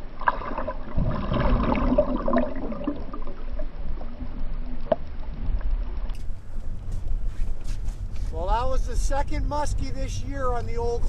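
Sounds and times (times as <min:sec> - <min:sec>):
water gurgling and sloshing: 0:00.0 - 0:11.0.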